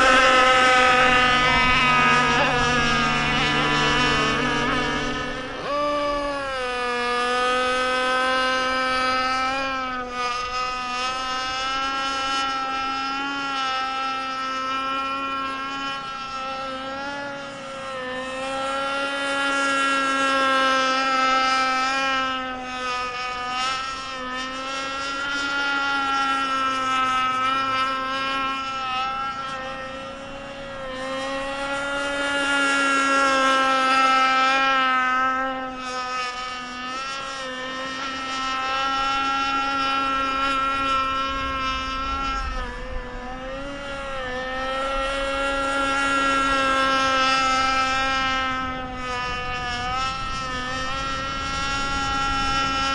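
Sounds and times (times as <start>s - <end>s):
rc boat motor buzzing: 0.0s - 52.9s.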